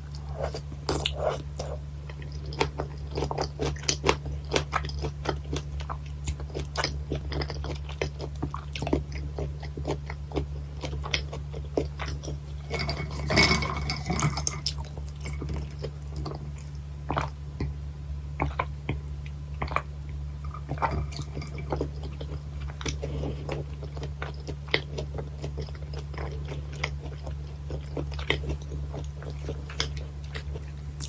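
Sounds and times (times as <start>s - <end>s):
wet chewing clicks: 0.0s - 17.7s, 18.4s - 30.8s
crunchy chewing of raw fish: 0.0s - 31.0s
steady low hum: 0.0s - 31.0s.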